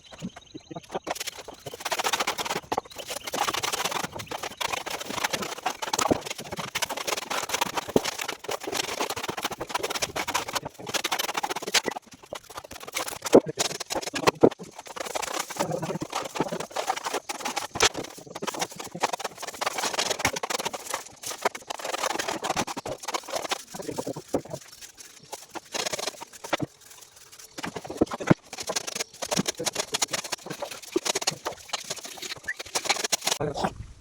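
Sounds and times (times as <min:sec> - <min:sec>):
hand tools tapping and scraping: 0:00.0 - 0:33.4.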